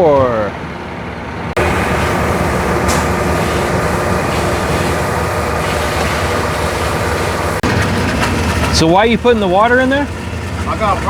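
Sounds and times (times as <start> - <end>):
heavy diesel truck engines: 0.0 - 11.0.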